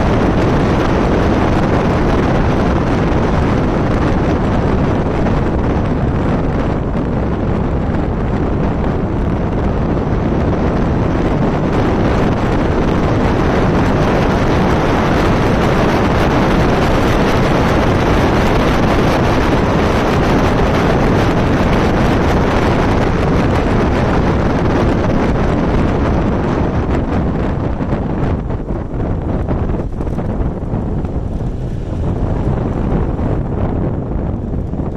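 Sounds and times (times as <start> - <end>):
wind buffeting a microphone: 0.0 - 34.9.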